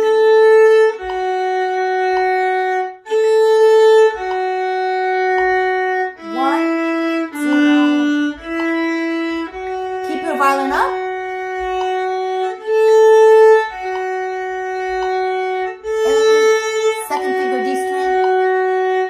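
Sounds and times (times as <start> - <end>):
solo violin bowing: 0.0 - 19.0.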